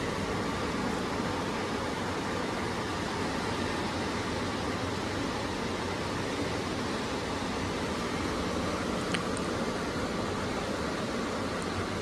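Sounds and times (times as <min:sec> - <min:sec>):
ocean surf breaking: 0:00.0 - 0:12.0
wind: 0:00.0 - 0:12.0.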